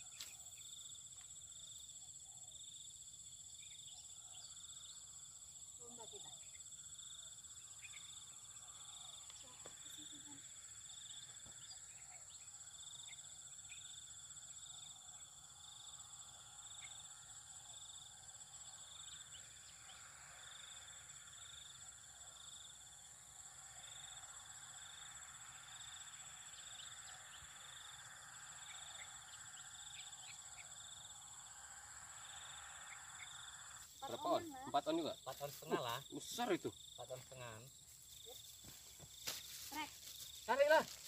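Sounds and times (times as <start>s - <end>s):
insect high-pitched drone: 0.0s - 41.0s
pulsing insect call: 0.0s - 41.0s
short insect chirps: 0.0s - 41.0s.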